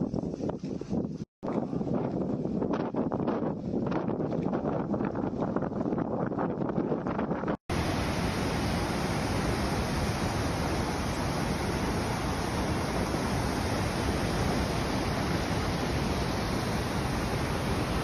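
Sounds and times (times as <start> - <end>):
storm wind and rain: 0.0 - 18.0
wind buffeting microphone: 0.0 - 18.0.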